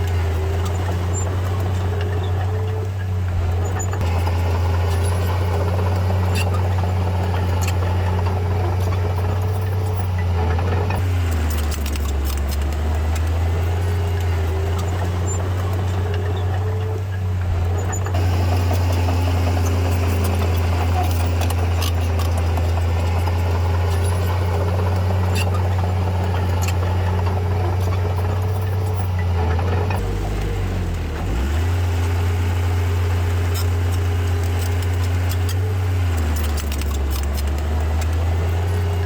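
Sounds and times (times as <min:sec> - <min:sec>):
diesel engine droning: 0:00.0 - 0:39.0
sharp clicks and clanks: 0:00.0 - 0:39.0.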